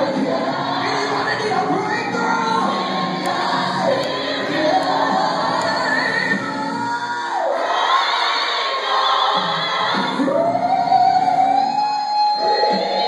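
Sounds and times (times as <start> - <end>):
congregation singing: 0.0 - 13.0
gospel music accompaniment: 0.0 - 13.0
singers holding long notes: 0.0 - 13.0.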